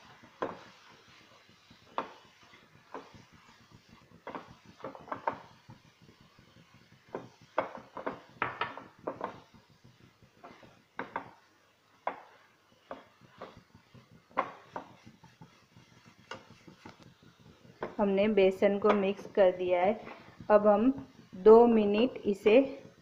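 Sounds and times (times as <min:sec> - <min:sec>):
spatula scraping a pan: 0:00.0 - 0:22.2.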